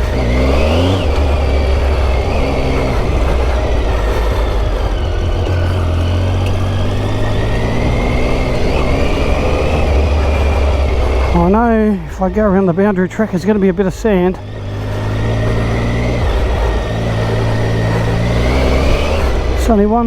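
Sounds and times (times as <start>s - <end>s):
motorcycle engine revving: 0.0s - 20.0s
steady rushing noise: 0.0s - 20.0s.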